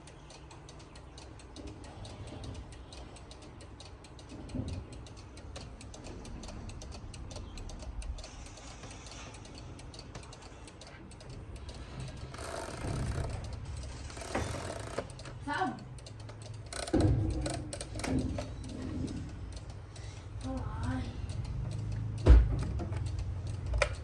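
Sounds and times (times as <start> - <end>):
clock ticking: 0.0 - 24.0.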